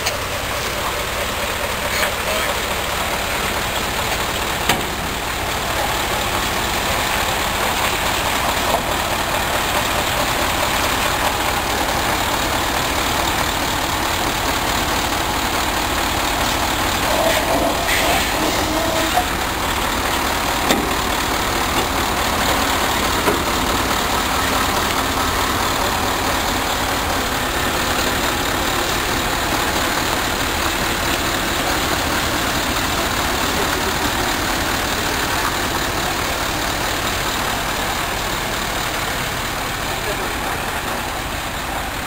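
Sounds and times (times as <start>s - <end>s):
truck diesel engines idling: 0.0s - 42.0s.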